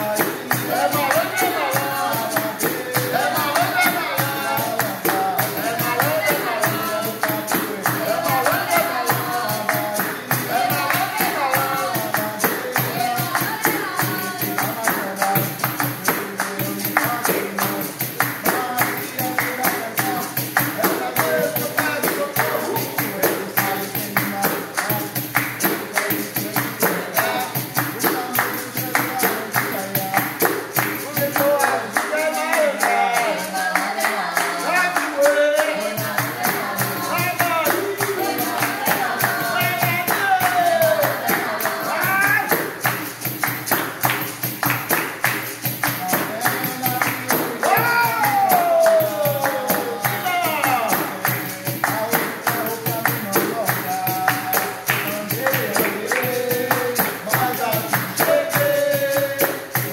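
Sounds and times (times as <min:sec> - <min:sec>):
rhythmic hand clapping: 0:00.0 - 0:59.9
small percussion instrument: 0:00.0 - 0:59.9
voices singing: 0:00.0 - 0:59.9.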